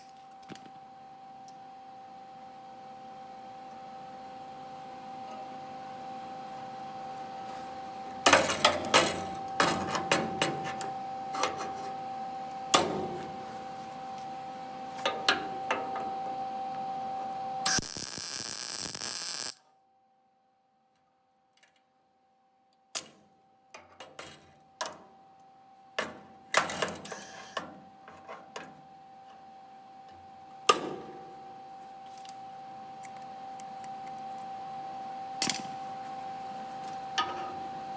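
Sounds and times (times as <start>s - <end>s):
steady two-tone hum: 0.0s - 20.7s, 24.5s - 37.9s.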